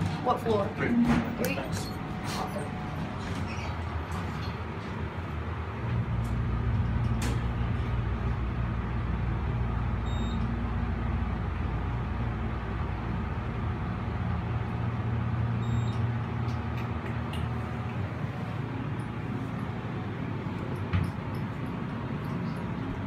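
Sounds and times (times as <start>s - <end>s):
elevator machinery humming: 0.0s - 23.0s.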